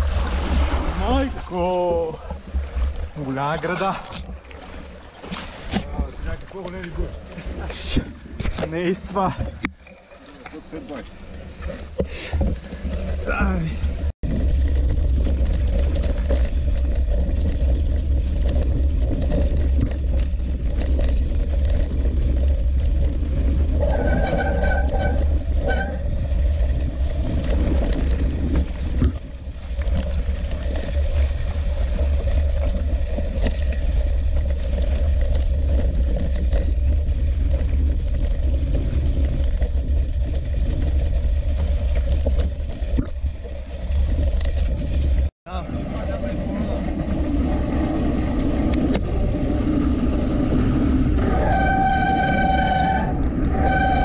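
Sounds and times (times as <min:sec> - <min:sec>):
bike tyres through mud: 0:00.0 - 0:54.0.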